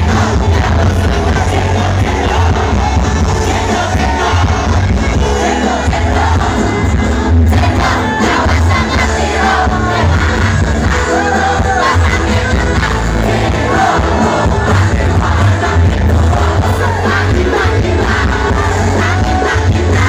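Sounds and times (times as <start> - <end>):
crowd voices: 0.0 - 20.0
heavy bass: 0.0 - 20.0
live band music: 0.0 - 20.0
singer's voice: 0.0 - 20.0.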